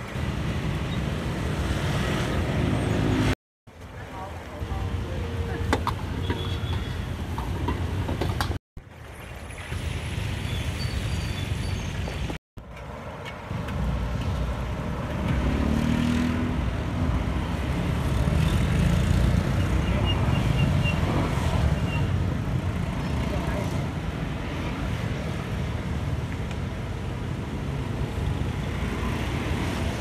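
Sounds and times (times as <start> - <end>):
motorbikes and cars passing: 0.0 - 30.0.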